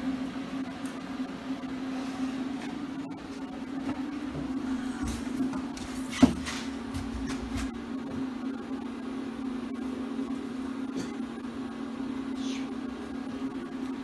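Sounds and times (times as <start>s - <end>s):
stepper motors humming: 0.0s - 14.0s.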